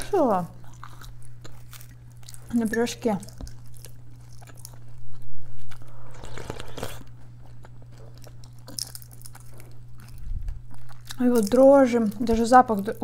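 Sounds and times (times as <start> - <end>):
steady low hum: 0.0 - 13.0
crunchy chewing of seaweed: 0.5 - 13.0.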